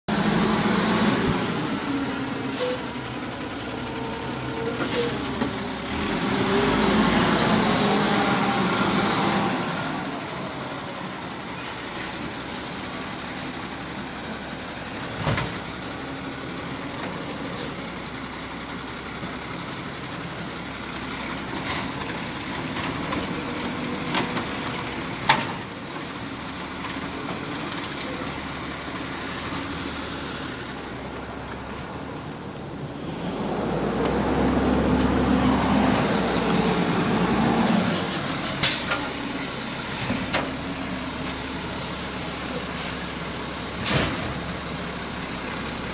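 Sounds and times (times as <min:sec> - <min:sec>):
garbage truck running: 0:00.1 - 0:45.9.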